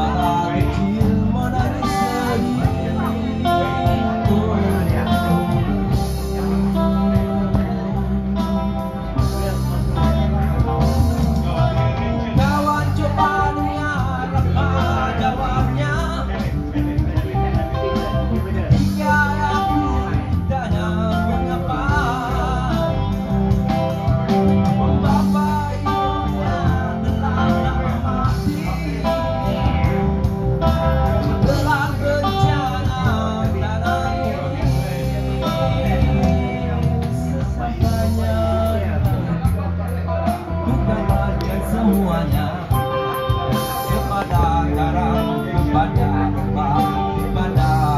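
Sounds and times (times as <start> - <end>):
instrumental accompaniment: 0.0 - 47.9
man singing into microphone: 0.0 - 47.9.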